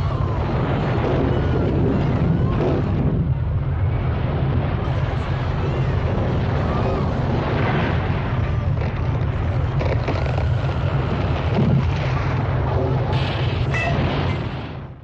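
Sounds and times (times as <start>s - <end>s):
deep earthquake rumble: 0.0s - 15.0s.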